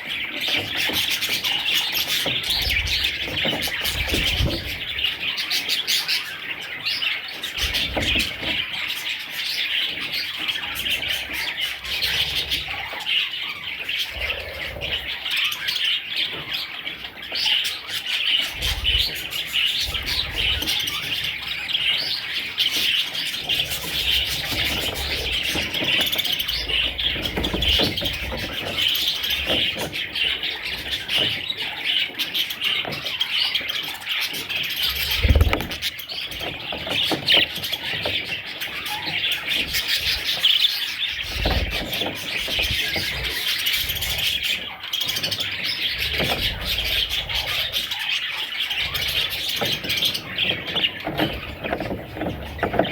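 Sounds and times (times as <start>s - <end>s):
budgies chirping and chattering: 0.0s - 52.9s.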